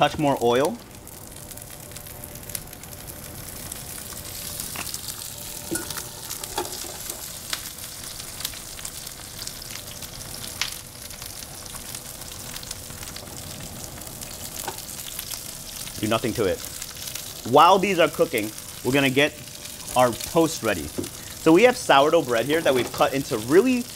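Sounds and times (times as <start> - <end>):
mushrooms sizzling in oil: 0.0 - 23.9.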